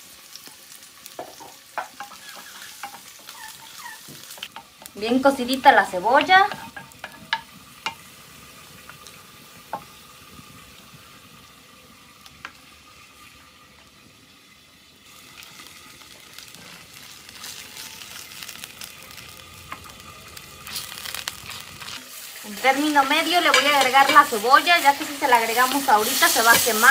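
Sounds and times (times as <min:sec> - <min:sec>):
meat and onion frying in oil: 0:00.0 - 0:26.9.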